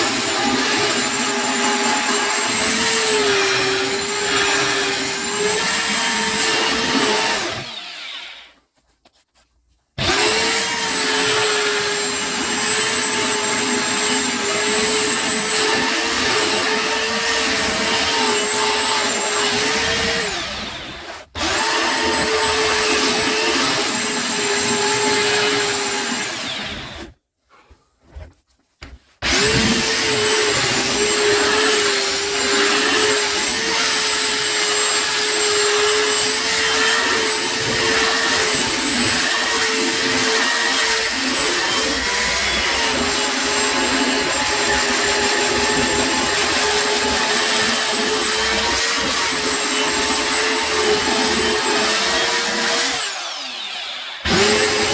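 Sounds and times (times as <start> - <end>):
power sander on wood: 0.0 - 8.5, 10.0 - 27.1, 29.2 - 54.9.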